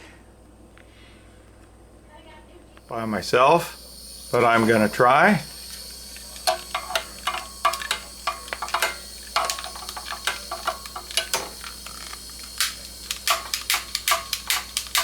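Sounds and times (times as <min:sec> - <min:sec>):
faint gas hiss: 0:02.3 - 0:15.0
burner sputtering and crackling: 0:02.9 - 0:15.0.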